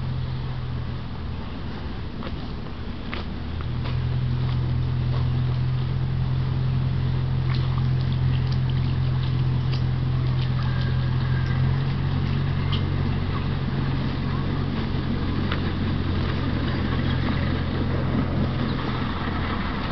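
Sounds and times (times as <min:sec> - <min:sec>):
low motor hum: 0:00.0 - 0:19.9.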